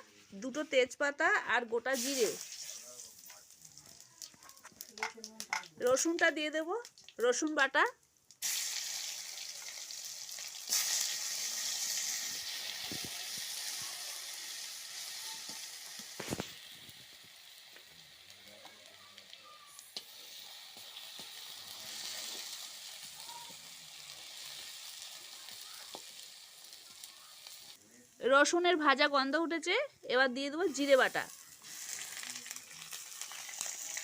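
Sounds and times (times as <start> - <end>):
paste sizzling in hot oil: 1.8 - 7.2, 8.2 - 28.2, 30.5 - 34.0.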